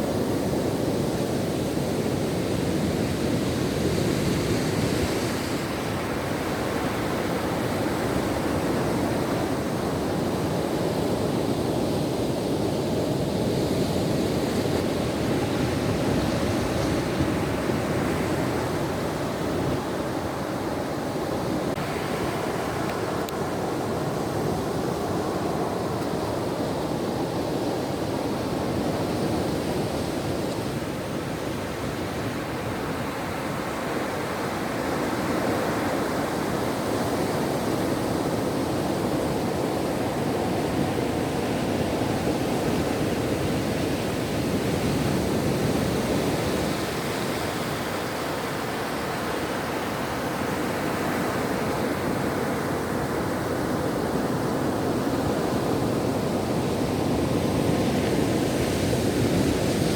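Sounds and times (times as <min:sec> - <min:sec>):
ocean surf washing ashore: 0:00.0 - 0:59.9.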